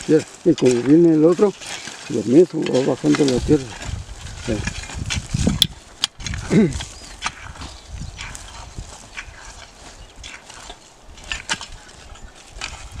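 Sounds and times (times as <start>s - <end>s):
footsteps on clods: 0.0s - 13.0s
sticks jabbing into dry soil: 0.0s - 13.0s.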